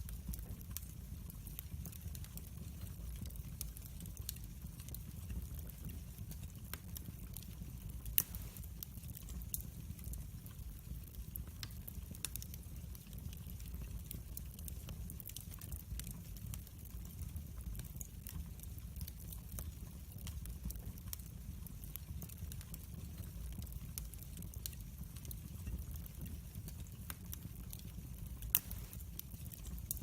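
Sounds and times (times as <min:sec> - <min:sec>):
log fire crackling and popping: 0:00.0 - 0:30.0
low rumble of flame: 0:00.0 - 0:30.0.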